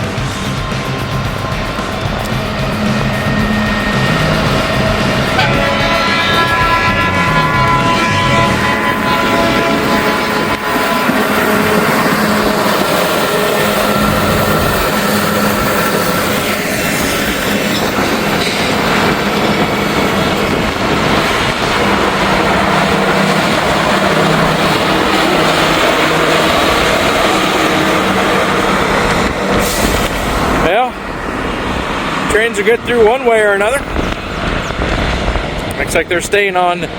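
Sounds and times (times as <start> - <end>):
rail equipment engine hum: 0.0 - 36.9
wheels on rails: 0.0 - 36.9
wind rumbling on microphone: 0.0 - 36.9.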